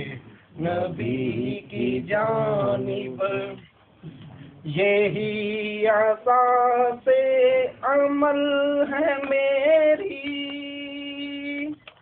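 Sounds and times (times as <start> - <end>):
person singing unaccompanied: 0.0 - 3.7, 4.7 - 11.8.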